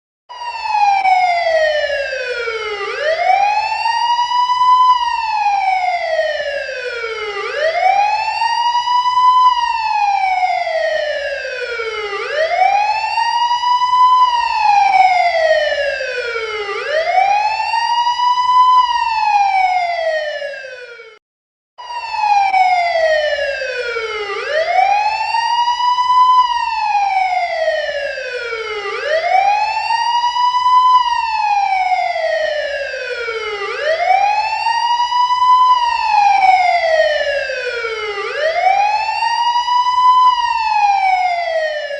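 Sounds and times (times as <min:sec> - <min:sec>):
police siren wailing: 0:00.3 - 0:21.2, 0:21.8 - 0:41.9.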